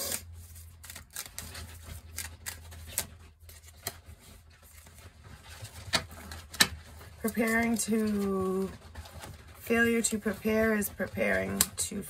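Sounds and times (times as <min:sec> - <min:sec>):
cards clicking and rustling: 0:00.0 - 0:12.0.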